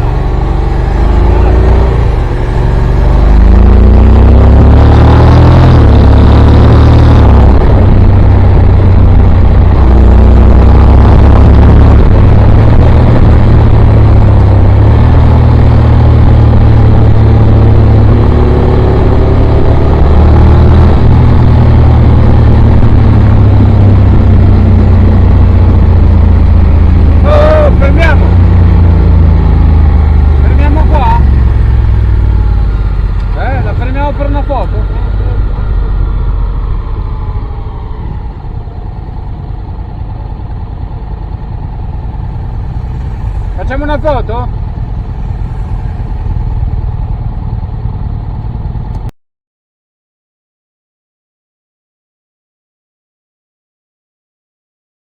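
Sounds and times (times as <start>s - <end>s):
motorcycle engine accelerating: 0.0s - 49.1s.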